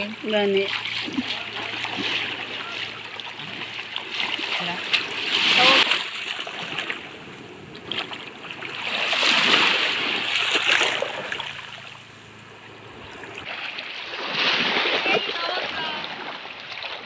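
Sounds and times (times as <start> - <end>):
small waves lapping at shore: 0.0 - 17.0.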